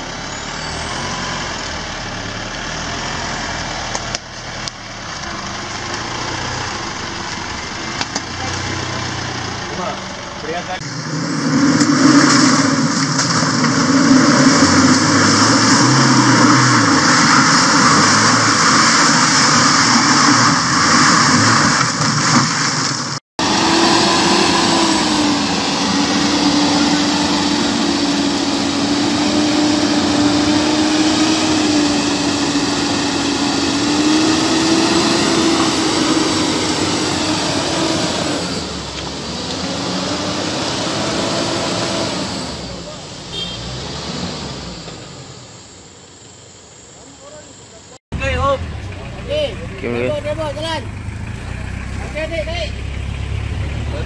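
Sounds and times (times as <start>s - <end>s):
truck engine running hard: 0.0s - 21.5s, 23.0s - 46.0s, 48.1s - 54.0s.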